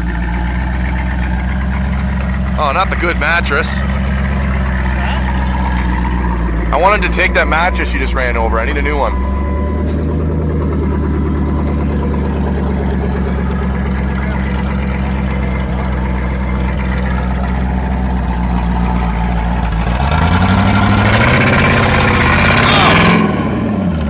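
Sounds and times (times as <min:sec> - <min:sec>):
pickup truck engine revving: 0:00.0 - 0:24.0.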